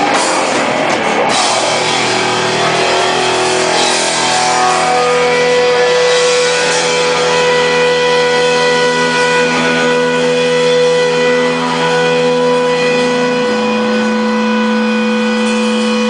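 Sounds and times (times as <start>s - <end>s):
amplifier feedback tone: 0.0s - 16.0s
distorted electric guitars: 0.0s - 16.0s.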